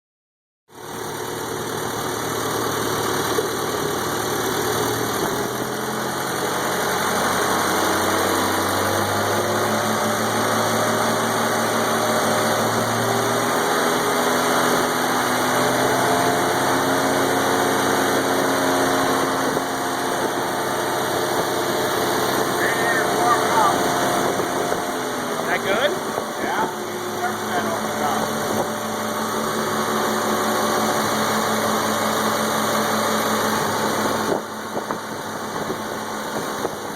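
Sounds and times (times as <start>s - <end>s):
tractor engine running: 0.8s - 36.9s.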